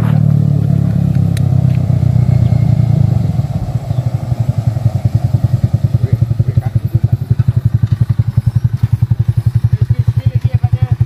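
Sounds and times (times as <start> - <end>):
quad bike engine putter: 0.0 - 4.2, 4.9 - 11.0.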